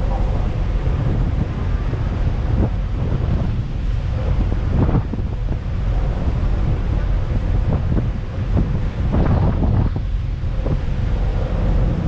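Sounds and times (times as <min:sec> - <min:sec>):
boat engine: 0:00.0 - 0:12.0
sea rushing: 0:00.0 - 0:12.0
wind buffeting microphone: 0:00.0 - 0:12.0.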